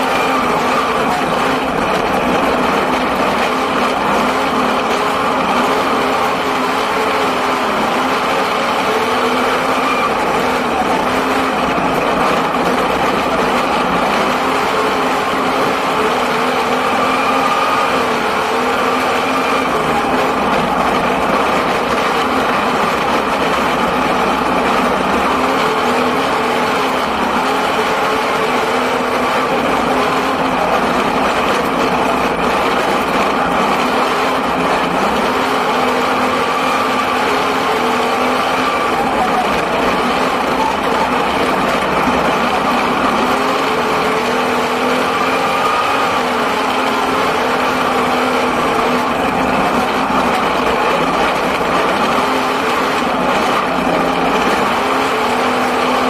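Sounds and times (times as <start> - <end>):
racing car engine: 0.0 - 56.0.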